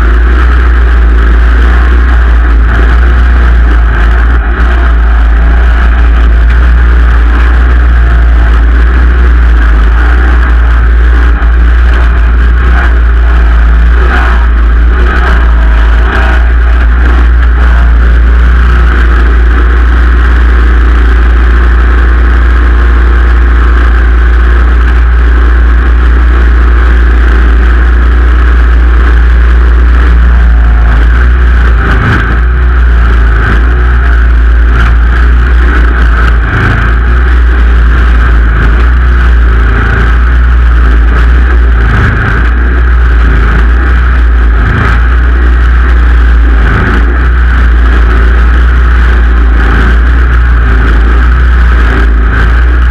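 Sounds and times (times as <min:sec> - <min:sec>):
garden tractor engine running: 0:00.0 - 0:52.9.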